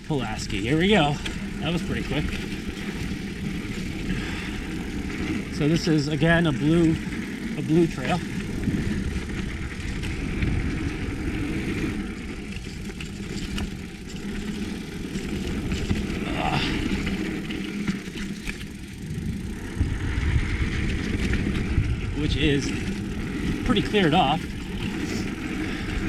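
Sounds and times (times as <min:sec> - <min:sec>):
bike tyres rumbling over dirt: 0:00.0 - 0:26.0
wind buffeting microphone: 0:00.0 - 0:26.0.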